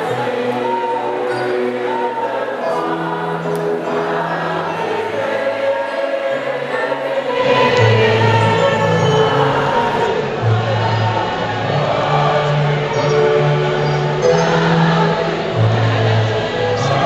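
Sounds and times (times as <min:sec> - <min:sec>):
choir singing sustained notes: 0:00.0 - 0:17.0.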